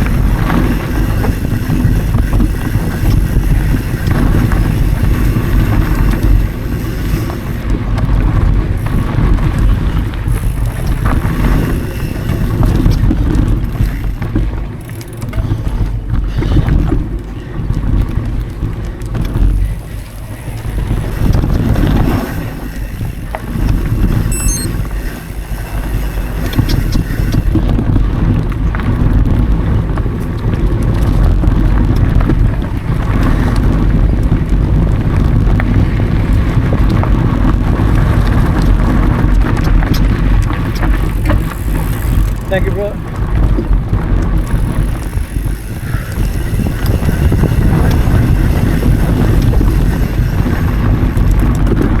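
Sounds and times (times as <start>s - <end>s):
bike knocks and rattles: 0.0s - 52.0s
bike tyre noise: 0.0s - 52.0s
wind rush on microphone: 0.0s - 52.0s.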